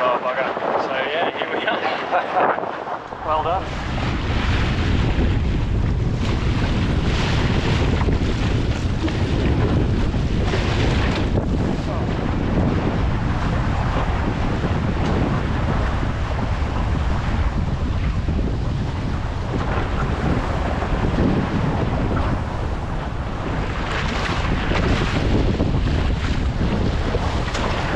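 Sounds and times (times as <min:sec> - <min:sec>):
wind buffeting microphone: 0:00.0 - 0:27.9
water splashing along boat hull: 0:01.4 - 0:27.9.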